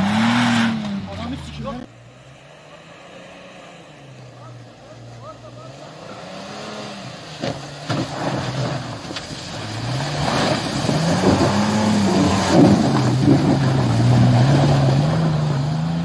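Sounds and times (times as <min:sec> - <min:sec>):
engine revving: 0:00.0 - 0:16.0
tyres churning through mud: 0:00.0 - 0:16.0.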